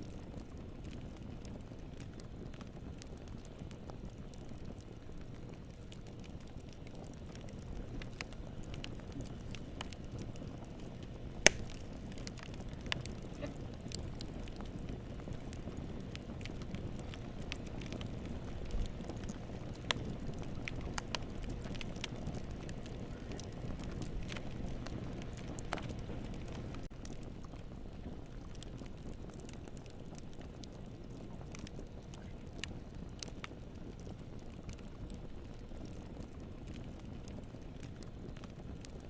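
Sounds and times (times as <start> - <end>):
fire crackling and popping: 0.0 - 39.0
fire flames rumbling: 0.0 - 39.0.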